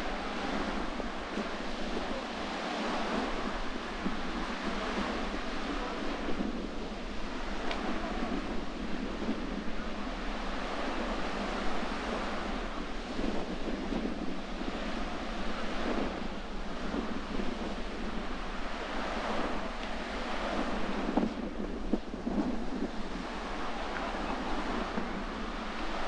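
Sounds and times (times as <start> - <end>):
sea surf washing in: 0.0 - 26.0
wind on microphone: 0.0 - 26.0.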